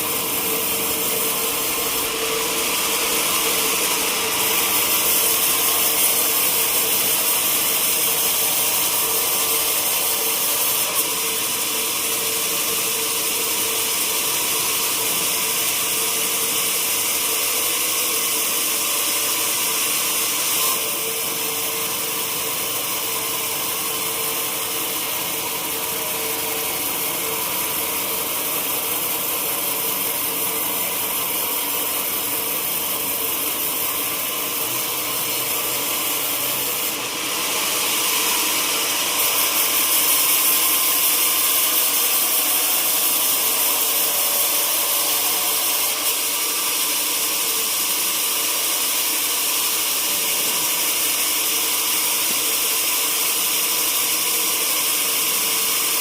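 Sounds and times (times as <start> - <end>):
sawmill machinery hum: 0.0 - 56.0.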